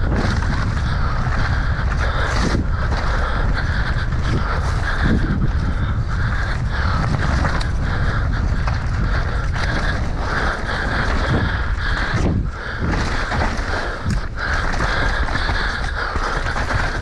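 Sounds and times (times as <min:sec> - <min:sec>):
bike rattles and clicks: 0:00.0 - 0:17.0
tyre noise on trail: 0:00.0 - 0:17.0
wind buffeting microphone: 0:00.0 - 0:17.0.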